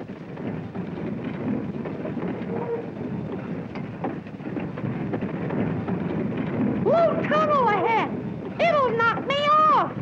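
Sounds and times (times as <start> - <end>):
light clicks of train track: 0.0 - 10.0.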